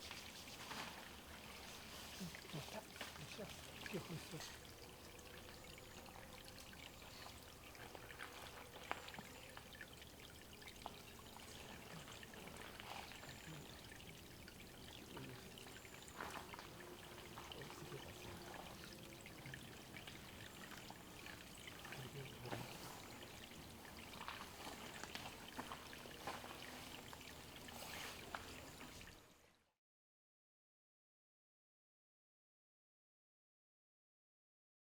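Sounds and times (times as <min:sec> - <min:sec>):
water drips and splashes: 0:00.0 - 0:29.6
water trickling: 0:00.0 - 0:29.6.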